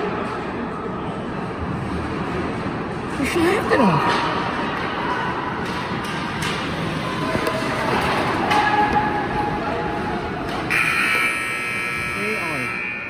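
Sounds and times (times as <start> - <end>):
crowd and hockey play noise: 0.0 - 13.0.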